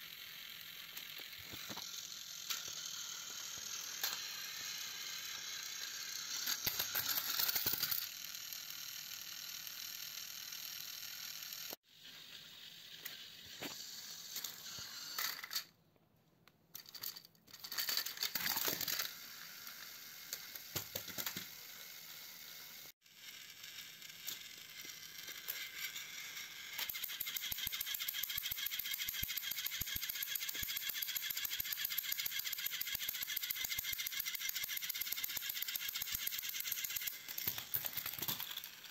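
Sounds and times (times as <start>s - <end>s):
toy train motors whirring: 0.0s - 15.8s, 16.7s - 38.9s.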